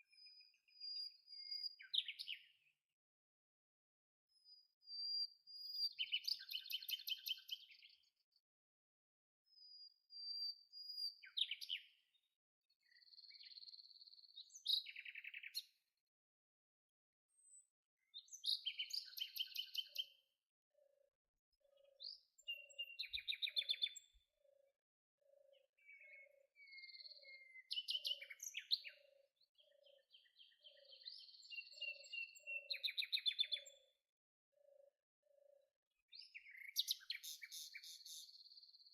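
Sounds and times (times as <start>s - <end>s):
songbirds chirping and trilling: 0.0s - 3.0s, 4.3s - 8.5s, 9.5s - 16.1s, 17.3s - 38.9s.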